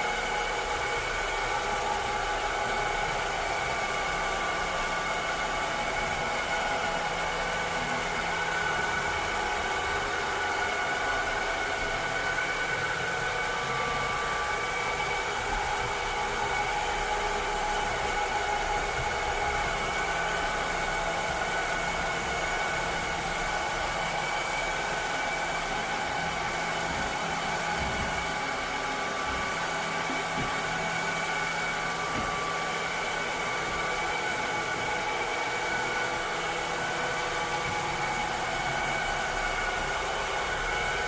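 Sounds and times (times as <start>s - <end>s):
whining motor tones: 0.2s - 41.0s.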